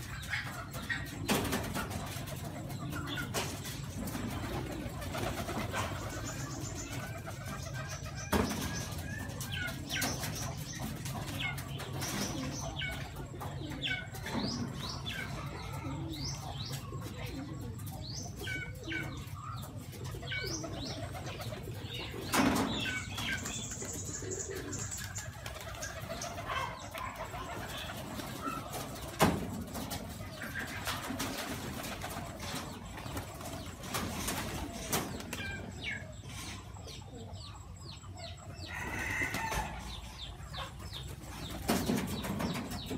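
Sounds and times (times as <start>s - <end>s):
pigeons cooing: 0.0s - 42.9s.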